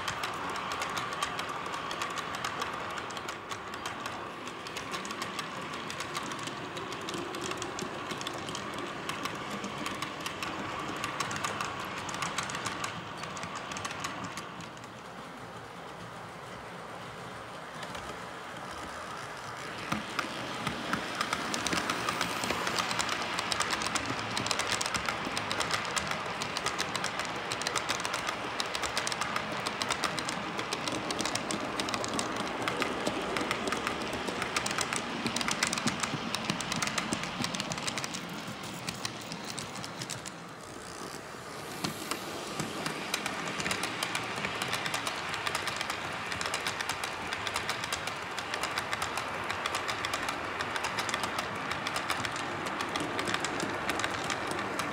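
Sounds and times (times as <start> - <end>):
model train wheels clicking on rail joints: 0.0 - 54.9.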